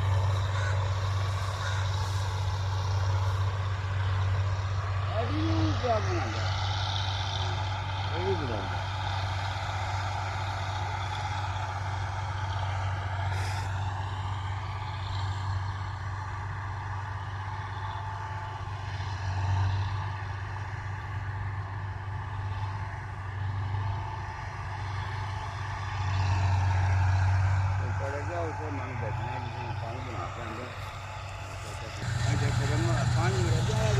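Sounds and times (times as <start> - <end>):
combine harvester engine running: 0.0 - 33.9.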